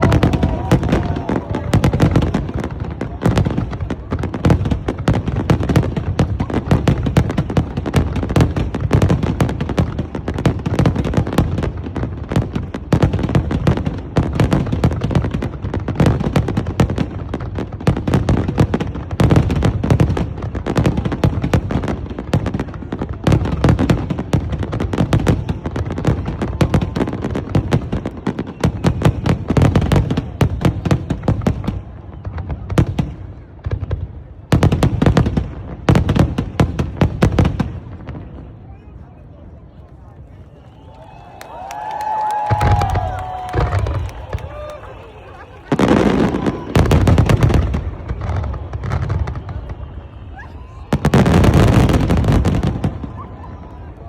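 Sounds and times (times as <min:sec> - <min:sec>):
fireworks booming and crackling: 0:00.0 - 0:54.0.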